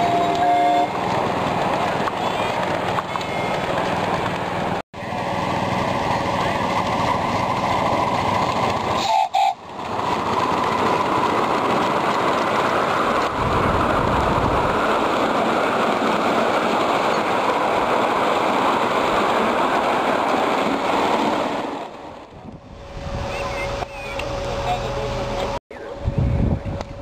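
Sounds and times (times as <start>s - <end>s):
miniature train rolling on track: 0.0s - 21.7s.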